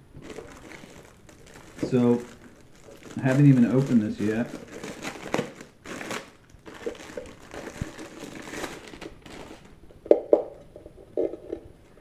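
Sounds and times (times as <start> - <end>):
packaging crinkling and rustling: 0.2 - 9.8.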